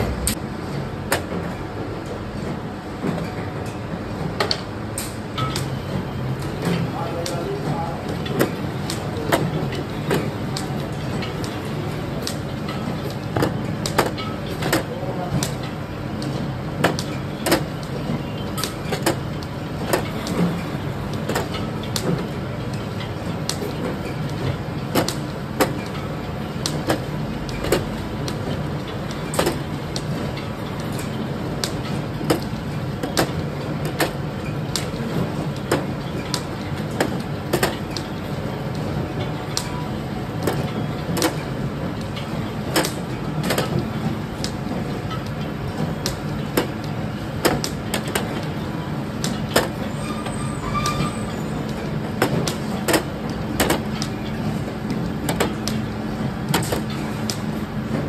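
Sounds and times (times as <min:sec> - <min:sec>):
conveyor machine humming: 0:00.0 - 0:58.0.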